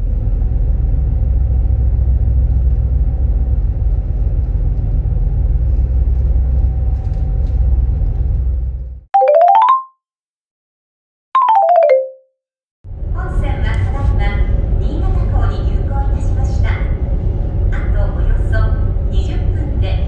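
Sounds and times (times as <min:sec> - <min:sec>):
vehicle engine rumble from inside: 0:00.0 - 0:09.1, 0:12.9 - 0:20.0.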